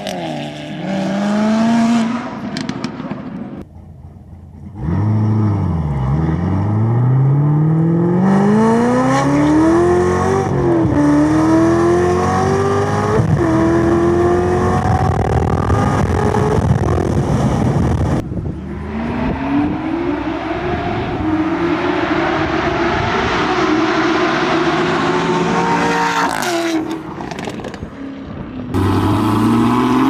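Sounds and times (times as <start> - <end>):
car engine at full throttle: 0.0 - 30.0.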